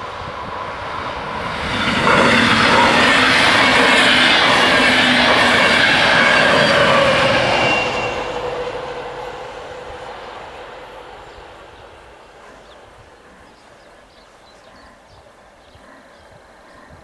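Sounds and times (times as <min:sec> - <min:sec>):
train running past: 0:00.0 - 0:15.6.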